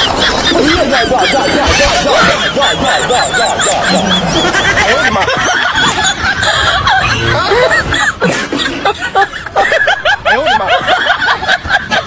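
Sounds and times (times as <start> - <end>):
many voices laughing: 0.0 - 12.0.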